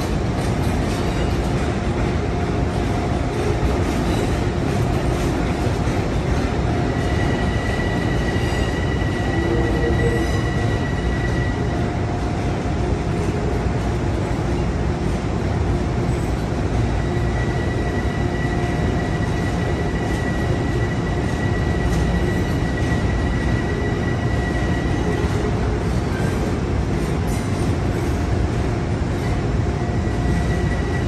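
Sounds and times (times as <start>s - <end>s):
train rumble: 0.0s - 31.0s
steady whining tones: 1.2s - 26.6s.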